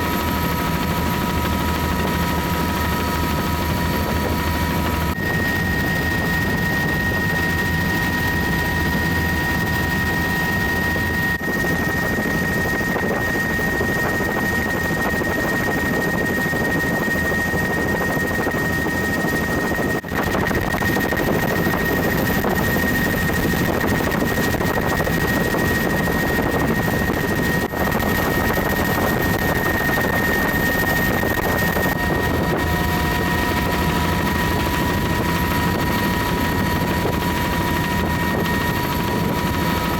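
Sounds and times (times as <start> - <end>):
helicopter rotor and engine: 0.0 - 39.9
high whine: 0.0 - 39.9.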